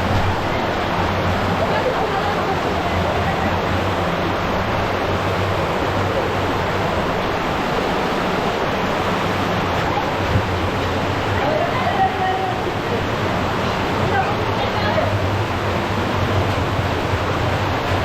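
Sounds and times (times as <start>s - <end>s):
spring water rushing: 0.0s - 18.0s.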